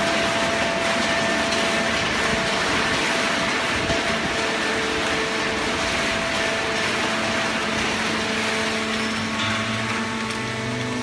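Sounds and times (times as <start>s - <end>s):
baler machine humming: 0.0s - 11.0s.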